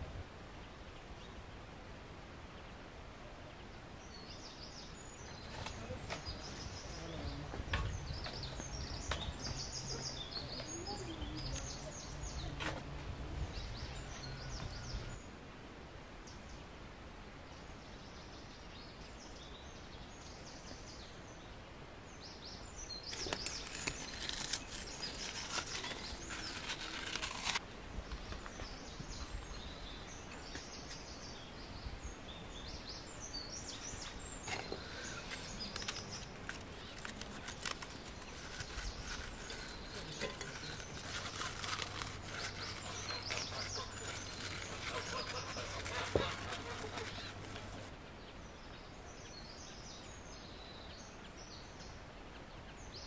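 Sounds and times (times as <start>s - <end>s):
songbirds chirping: 0.1s - 53.0s.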